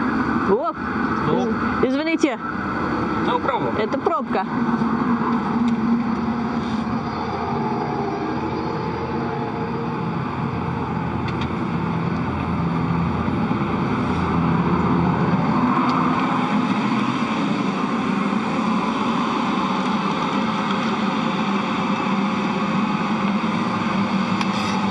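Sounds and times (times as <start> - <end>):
ventilation fans drone: 0.0 - 24.9.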